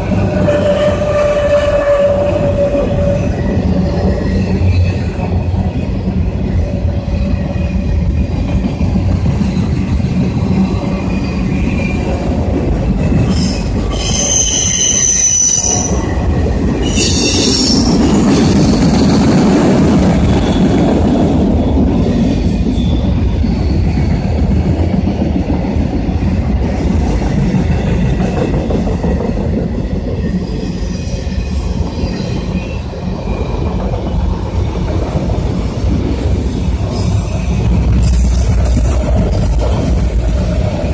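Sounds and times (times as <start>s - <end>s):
train cars rumbling past: 0.0s - 40.9s
train wheels squealing: 0.3s - 8.4s, 9.3s - 12.3s, 13.0s - 19.4s, 20.0s - 24.3s, 29.8s - 40.9s.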